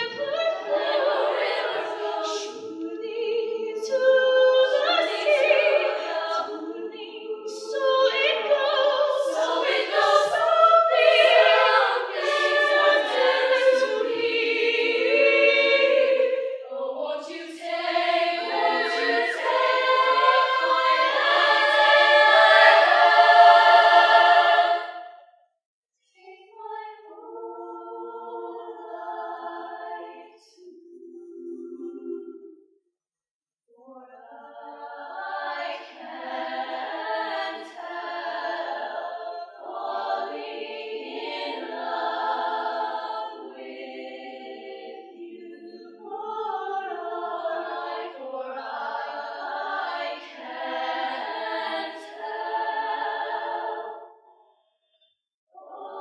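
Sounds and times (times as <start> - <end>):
women's choir singing a cappella: 0.0 - 25.2, 26.2 - 32.6, 33.8 - 54.3, 55.5 - 56.0.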